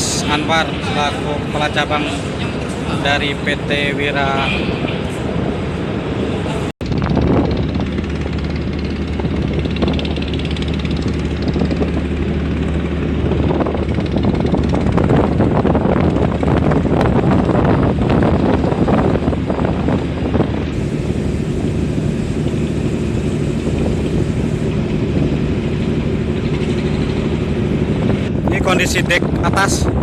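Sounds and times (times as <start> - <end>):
ferry engines droning: 0.0 - 30.0
rushing noise: 0.0 - 30.0.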